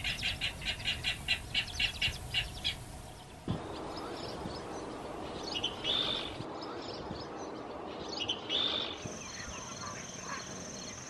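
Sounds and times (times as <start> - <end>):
bird calling: 0.0 - 11.0
steady outdoor hiss: 0.0 - 11.0.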